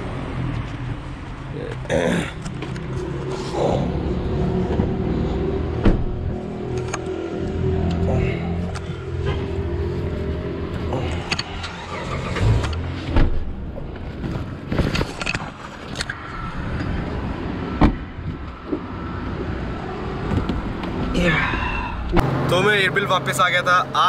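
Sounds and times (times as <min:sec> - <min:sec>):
low vehicle hum: 0:00.0 - 0:24.0.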